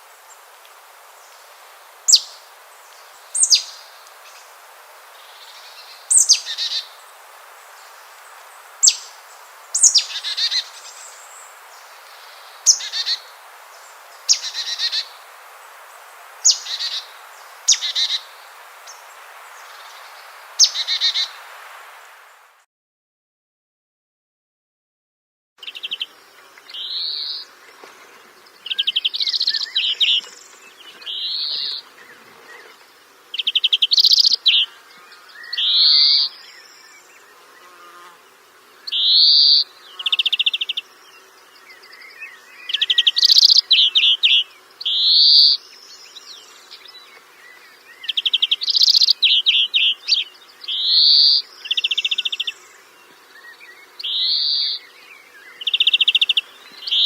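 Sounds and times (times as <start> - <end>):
songbird singing: 0.0 - 22.6, 25.6 - 57.0.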